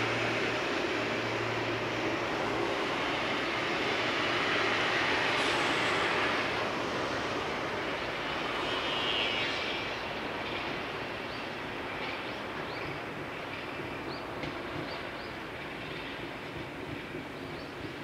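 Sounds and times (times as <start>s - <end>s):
distant train rushing rumble: 0.0s - 18.0s.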